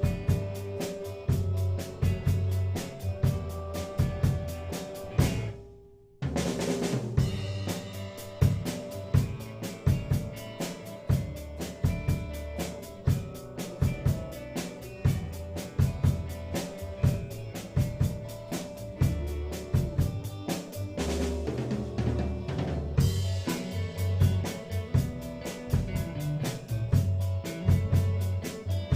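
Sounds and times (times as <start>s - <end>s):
band playing a song: 0.0s - 5.6s, 6.3s - 28.9s
drum kit steady beat: 0.0s - 28.9s.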